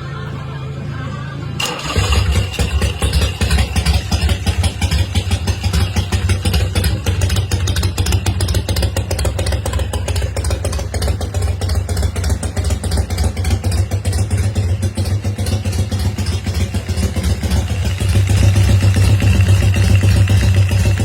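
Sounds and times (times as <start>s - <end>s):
motorcycle engine idling: 1.6s - 21.0s.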